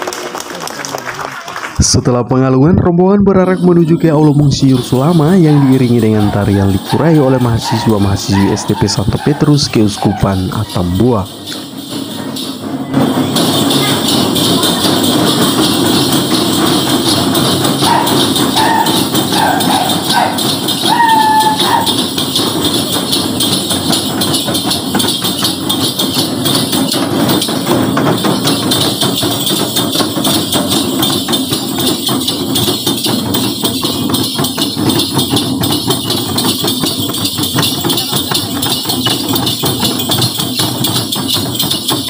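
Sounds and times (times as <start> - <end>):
constant jingling: 3.3 - 42.0
hand drums beaten fast: 3.6 - 42.0.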